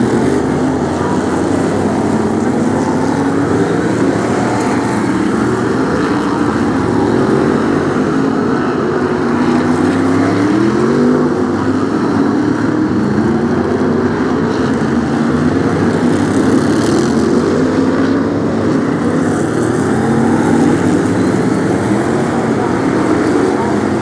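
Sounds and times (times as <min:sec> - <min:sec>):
racing car engines: 0:00.0 - 0:24.0.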